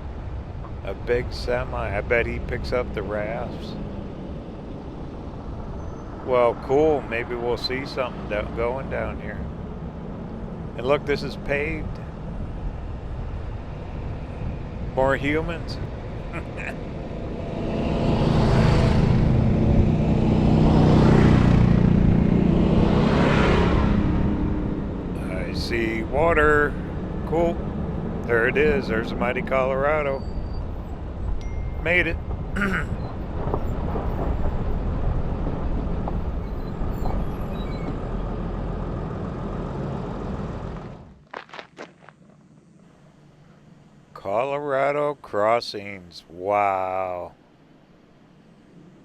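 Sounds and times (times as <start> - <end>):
vehicle engine and road noise: 0.0 - 49.0.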